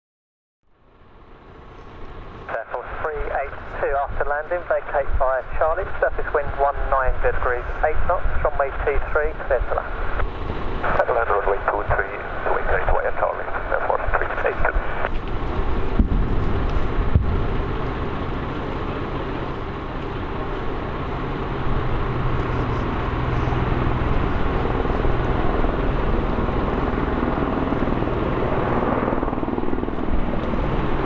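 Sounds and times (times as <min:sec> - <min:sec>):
low hum: 0:00.7 - 0:31.0
helicopter rotor and engine: 0:00.8 - 0:31.0.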